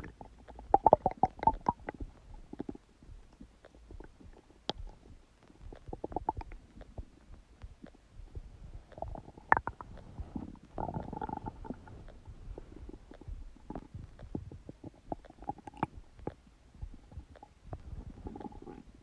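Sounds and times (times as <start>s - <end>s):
stomach gurgling: 0.0s - 19.0s.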